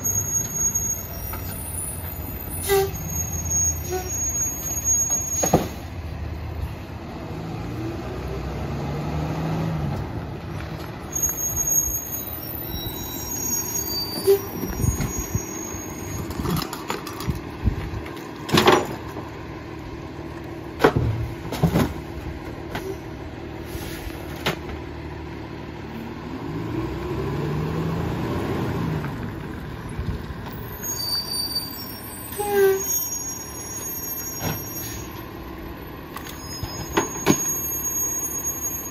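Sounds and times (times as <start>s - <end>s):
garbage truck engine: 0.0s - 38.9s.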